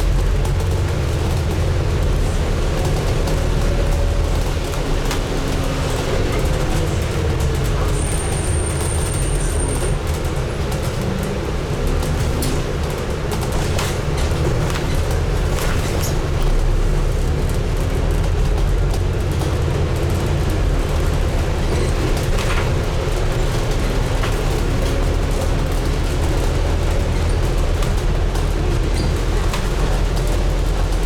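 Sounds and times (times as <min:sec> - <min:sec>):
bodywork rattles and clicks: 0:00.0 - 0:31.0
bus engine and road drone: 0:00.0 - 0:31.0.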